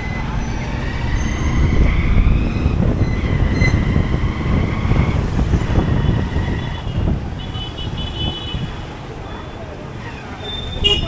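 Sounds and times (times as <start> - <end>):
motorcycle engine rumble: 0.0 - 11.0
road traffic rumble: 0.0 - 11.0.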